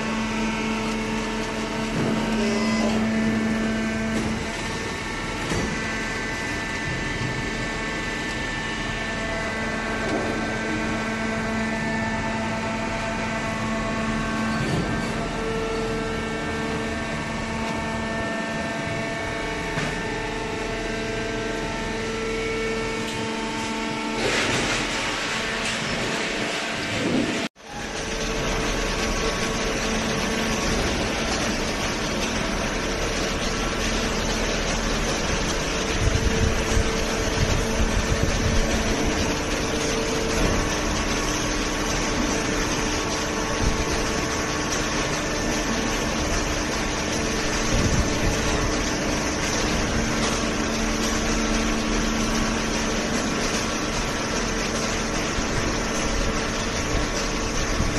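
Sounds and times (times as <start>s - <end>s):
machine hum with held tones: 0.0s - 57.9s.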